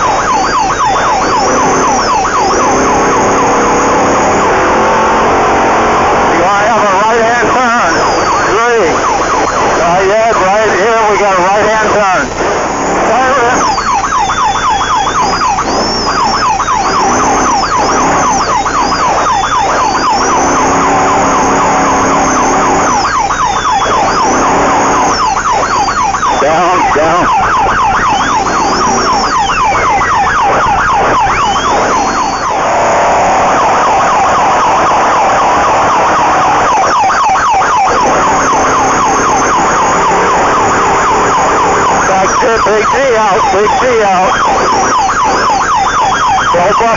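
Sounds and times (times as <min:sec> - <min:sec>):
high engine whine: 0:00.0 - 0:46.9
race vehicle engine running hard: 0:00.0 - 0:46.9.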